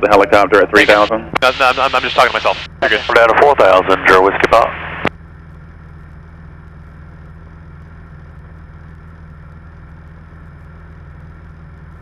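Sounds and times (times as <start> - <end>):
light aircraft engine drone: 0.0 - 12.0.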